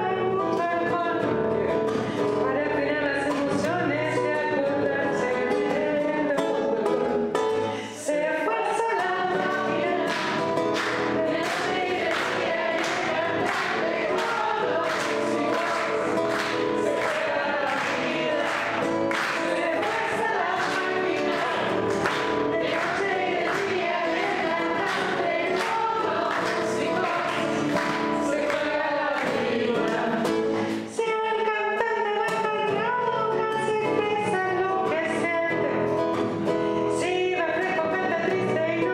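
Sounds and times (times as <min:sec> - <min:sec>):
woman singing: 0:00.0 - 0:36.1, 0:36.8 - 0:38.9
acoustic guitar strumming: 0:00.0 - 0:38.9.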